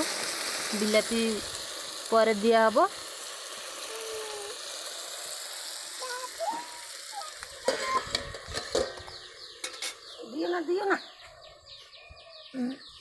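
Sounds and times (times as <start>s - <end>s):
vegetables sizzling in a wok: 0.0s - 10.9s.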